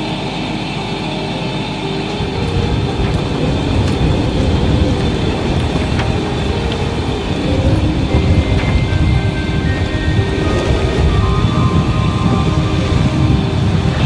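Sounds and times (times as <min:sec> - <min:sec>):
wind buffeting microphone: 0:01.9 - 0:14.0.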